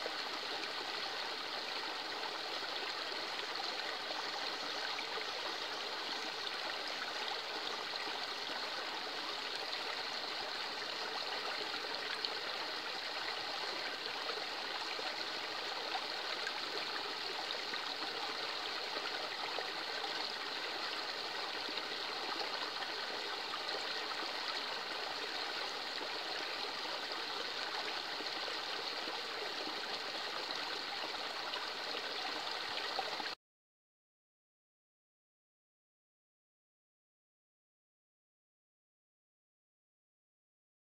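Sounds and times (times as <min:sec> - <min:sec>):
stream trickling over stones: 0:00.0 - 0:33.4.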